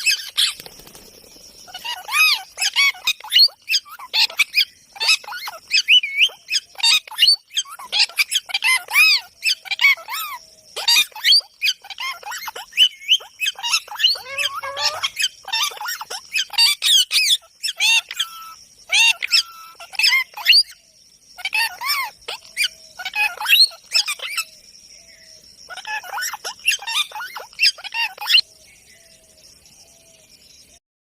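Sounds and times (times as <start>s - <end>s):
parrot squawking and chirping: 0.0s - 0.6s, 1.7s - 20.8s, 21.4s - 24.5s, 25.7s - 28.4s.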